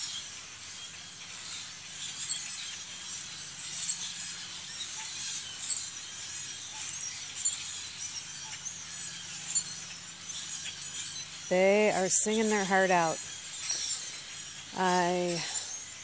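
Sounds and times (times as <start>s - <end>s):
chorus of marsh birds calling: 0.0s - 16.0s.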